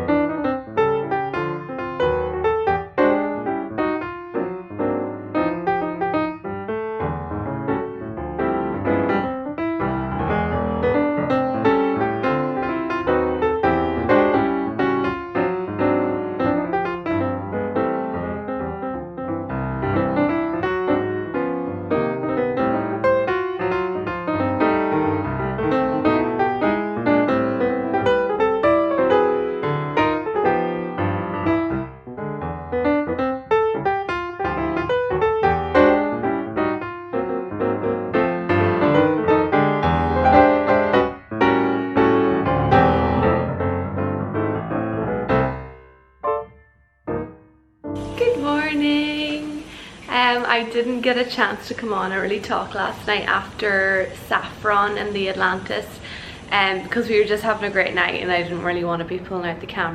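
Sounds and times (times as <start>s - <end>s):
piano music: 0.0s - 55.8s, 56.4s - 59.9s.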